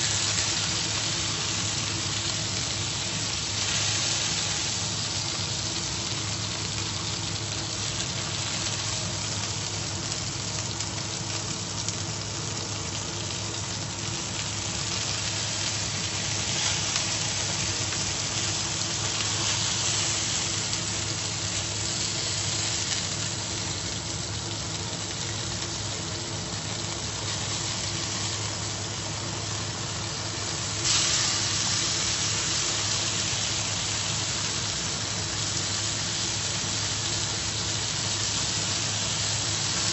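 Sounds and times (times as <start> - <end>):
steak sizzling in a frying pan: 0.0 - 39.9.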